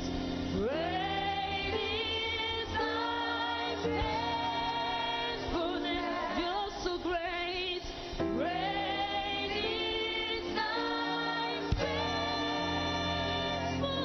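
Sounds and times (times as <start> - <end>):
gospel singing with accompaniment: 0.0 - 14.0.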